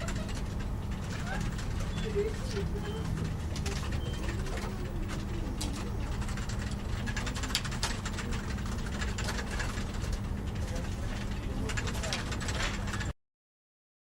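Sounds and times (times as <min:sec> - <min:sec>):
low office hum: 0:00.0 - 0:13.2.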